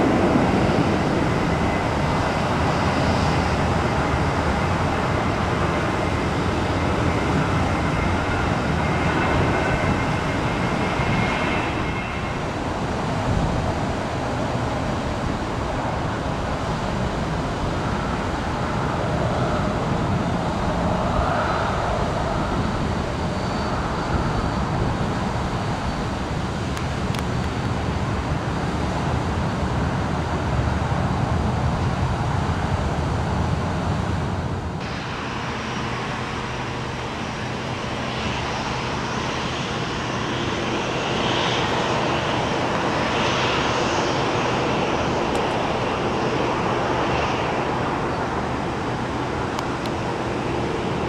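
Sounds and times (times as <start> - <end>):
jet engine rushing: 0.0 - 51.0.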